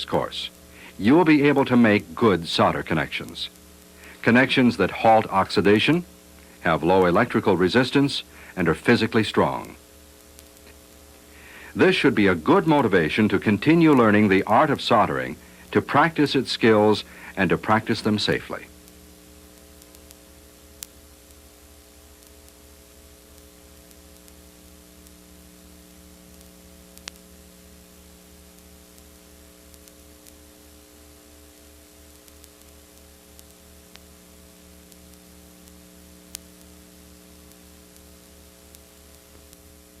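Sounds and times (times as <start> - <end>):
electrical mains hum: 0.0 - 40.0.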